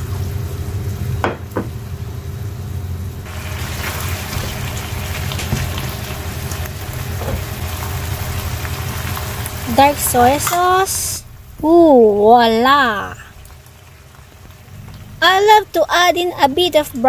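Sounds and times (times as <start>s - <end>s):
food sizzling in frying pan: 0.0s - 17.0s
steady low hum: 0.0s - 17.0s.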